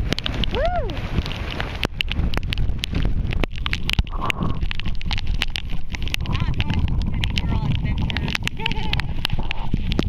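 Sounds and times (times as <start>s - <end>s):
raindrops striking sea: 0.0s - 10.0s
wind buffeting microphone: 0.0s - 10.0s.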